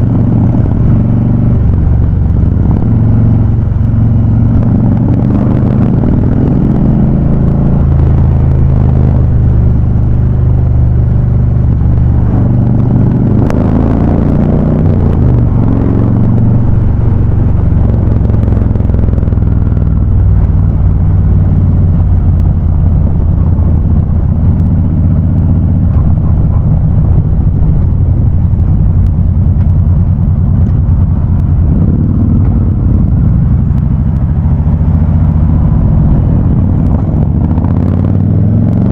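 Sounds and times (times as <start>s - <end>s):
motorcycle engines riding: 0.0s - 38.9s.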